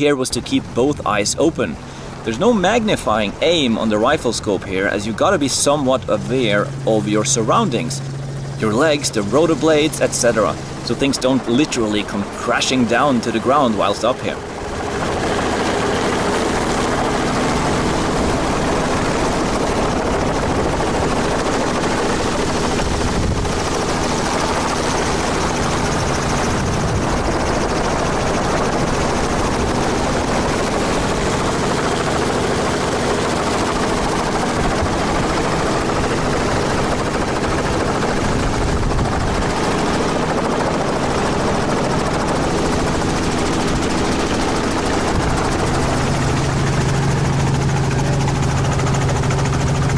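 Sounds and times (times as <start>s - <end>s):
helicopter rotor and engine drone: 0.0s - 49.9s.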